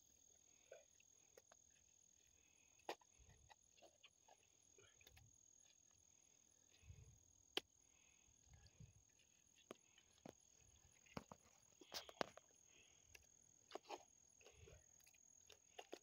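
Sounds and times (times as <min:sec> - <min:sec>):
crickets chirring: 0:00.1 - 0:16.0.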